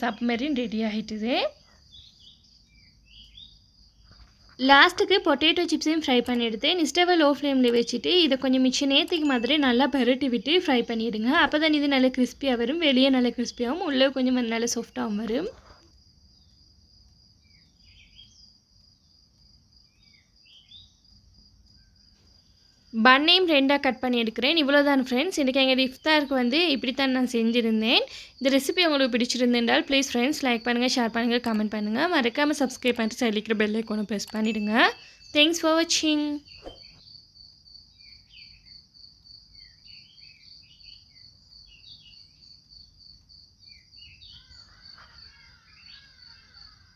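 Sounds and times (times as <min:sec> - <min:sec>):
birds chirping: 0:00.0 - 0:16.6, 0:17.3 - 0:19.1, 0:19.8 - 0:21.2, 0:22.6 - 0:37.1, 0:37.9 - 0:46.9
crickets chirping: 0:00.0 - 0:46.9
high-pitched insect trill: 0:00.0 - 0:46.9.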